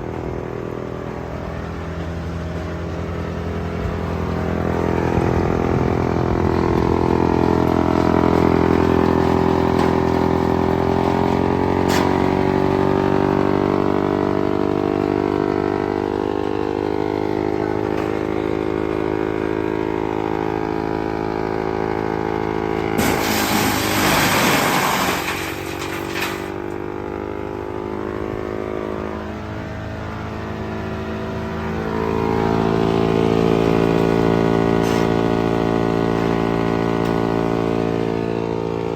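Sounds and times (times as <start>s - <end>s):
wood chipper engine running: 0.0s - 38.9s.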